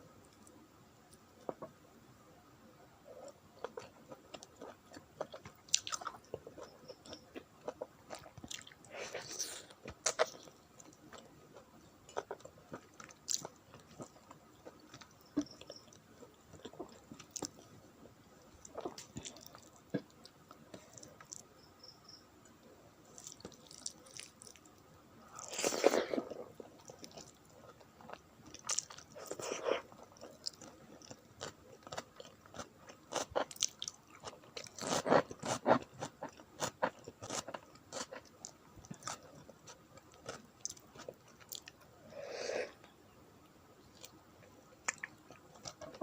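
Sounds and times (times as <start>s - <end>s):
chewing food: 3.1s - 21.5s, 23.1s - 41.9s, 43.9s - 46.0s.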